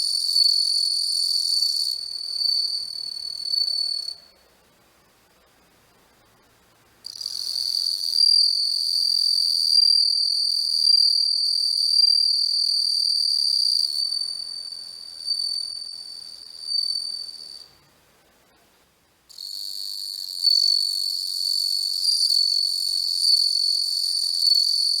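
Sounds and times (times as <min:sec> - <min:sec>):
cricket singing: 0:00.0 - 0:04.4, 0:07.1 - 0:17.8, 0:19.3 - 0:25.0.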